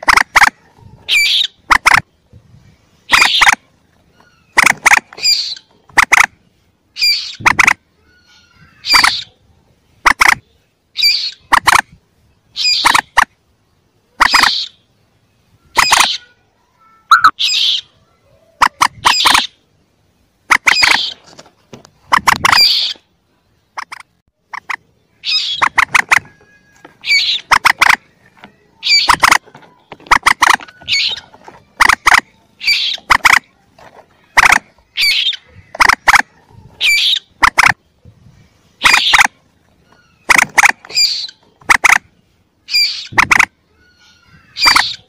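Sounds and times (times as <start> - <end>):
moorhen chicks squawking: 0.0 - 2.2, 2.9 - 13.4, 14.1 - 14.9, 15.6 - 16.4, 17.1 - 19.8, 20.4 - 23.1, 23.7 - 45.0.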